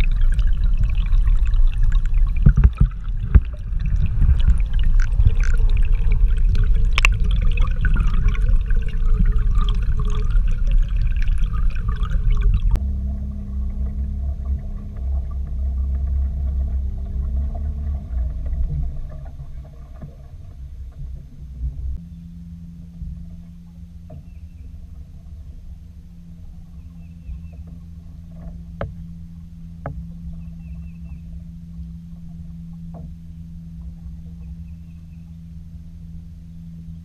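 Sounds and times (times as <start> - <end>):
faint steady tones: 0.0 - 37.0
steady low hum: 0.0 - 37.0
underwater rumble and sloshing: 0.0 - 37.0.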